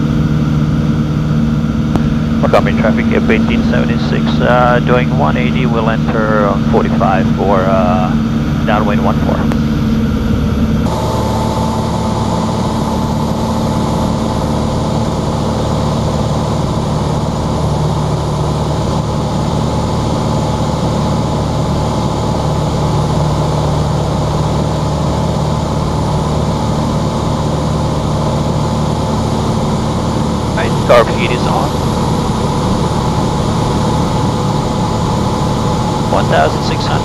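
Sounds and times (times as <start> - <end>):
propeller plane engine droning: 0.0 - 37.0.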